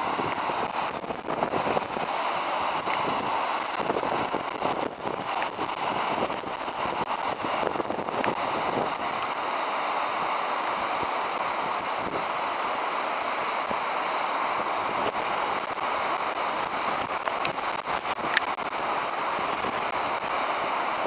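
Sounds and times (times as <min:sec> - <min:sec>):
muddy water roaring down creek: 0:00.0 - 0:21.0.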